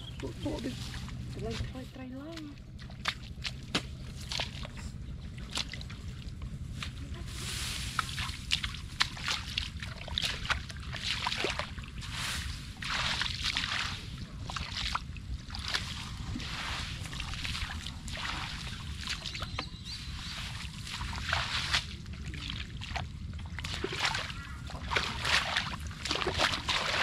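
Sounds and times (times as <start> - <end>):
muddy water sloshing and splashing: 0.0 - 27.0
steady low rumble: 0.0 - 27.0.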